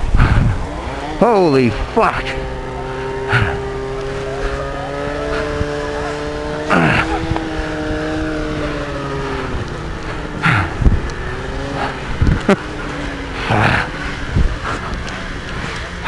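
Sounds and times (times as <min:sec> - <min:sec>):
bursts of rushing noise: 0:00.0 - 0:16.0
snowmobile engine running: 0:00.0 - 0:16.0.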